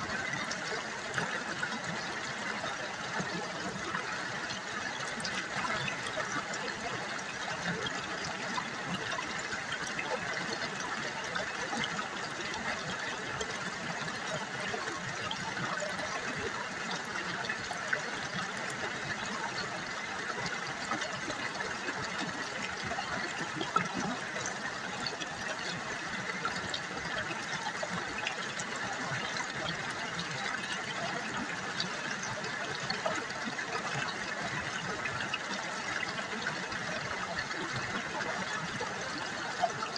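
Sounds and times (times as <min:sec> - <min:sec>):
river water trickling: 0:00.0 - 0:39.9.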